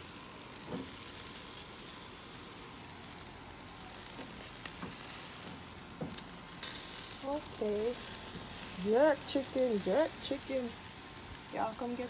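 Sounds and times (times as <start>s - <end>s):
meat sizzling on charcoal grill: 0.0s - 12.0s
sharp crackles: 0.0s - 12.0s.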